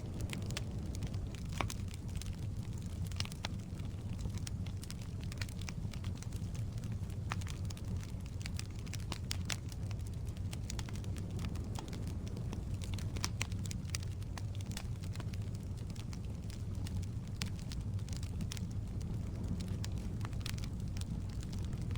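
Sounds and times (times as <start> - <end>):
logs popping and crackling: 0.0 - 21.9
low rumble of flame: 0.0 - 21.9.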